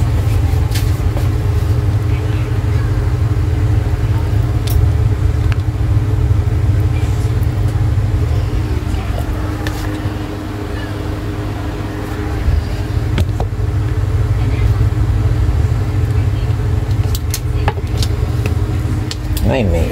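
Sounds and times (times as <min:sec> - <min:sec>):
low rumble with faint hum: 0:00.0 - 0:19.9.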